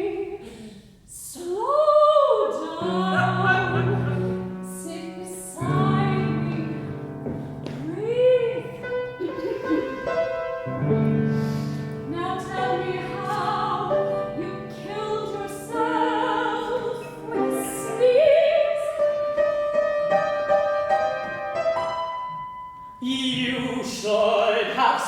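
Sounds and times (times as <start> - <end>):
piano chords: 2.6 - 25.0.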